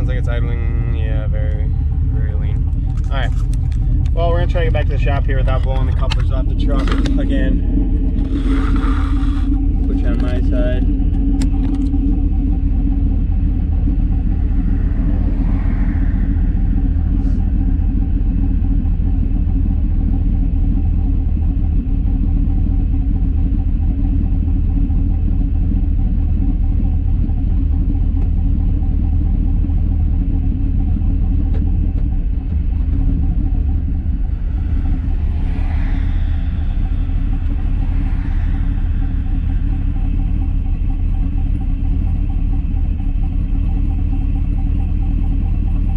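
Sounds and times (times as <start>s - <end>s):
pickup engine rumbling: 0.0s - 45.9s.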